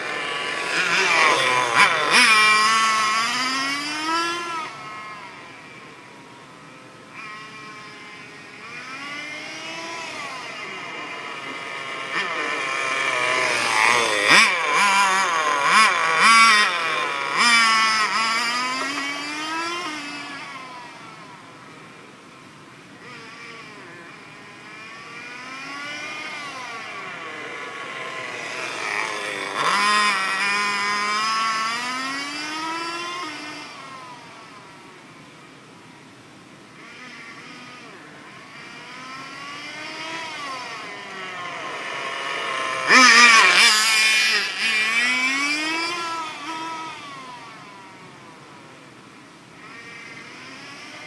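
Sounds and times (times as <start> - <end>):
rc car engine whine: 0.0 - 51.0.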